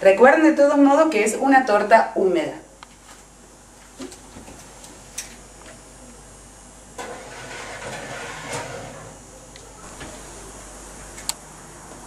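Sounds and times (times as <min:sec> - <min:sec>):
oven whirring hum: 0:00.0 - 0:12.0.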